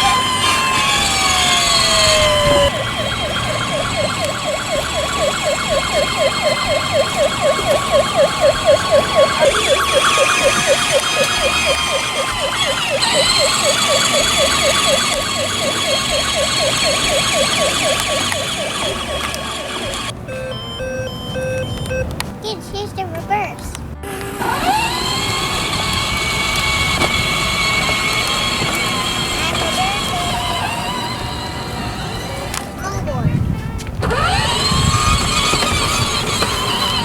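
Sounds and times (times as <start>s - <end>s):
electronic toy siren wailing: 0.0s - 22.1s, 24.4s - 32.6s, 34.0s - 37.0s.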